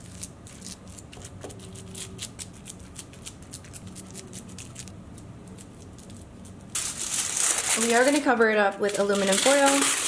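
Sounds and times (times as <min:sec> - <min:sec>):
clicks and crackles of mixture: 0:00.0 - 0:10.0.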